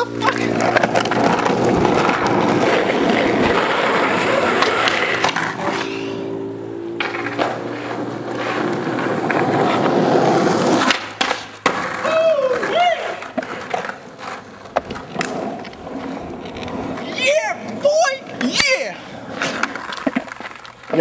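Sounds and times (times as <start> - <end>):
skateboard clacks: 0.0 - 6.3, 6.9 - 21.0
skateboard wheels on asphalt: 0.0 - 21.0.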